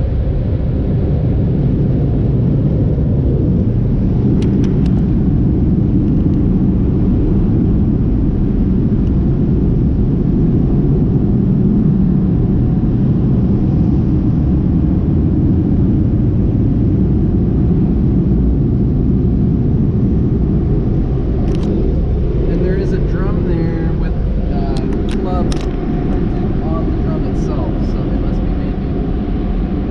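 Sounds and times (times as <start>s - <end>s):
muffled dryer blowers rumbling: 0.0s - 29.9s.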